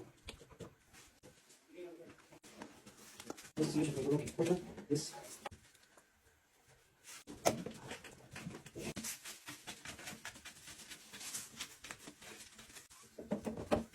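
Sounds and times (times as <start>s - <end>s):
rustling: 0.8s - 13.8s.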